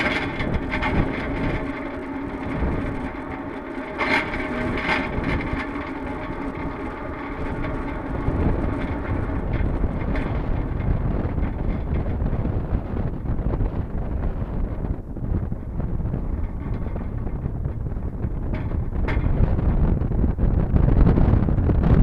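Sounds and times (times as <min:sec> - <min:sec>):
crane mechanical hum: 0:00.0 - 0:22.0
wind rushing over microphone: 0:00.0 - 0:22.0.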